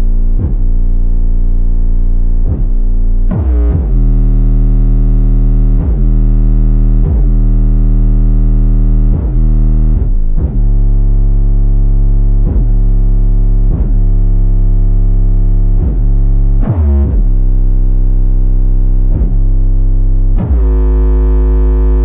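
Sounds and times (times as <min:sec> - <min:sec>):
deep synthesizer bass notes: 0:00.0 - 0:22.0.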